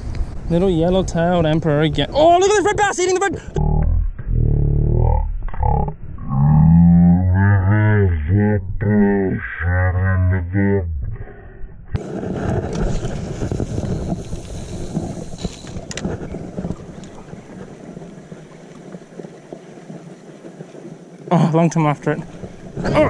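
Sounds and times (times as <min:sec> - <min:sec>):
water noise: 0:00.0 - 0:23.0
wind: 0:00.0 - 0:23.0.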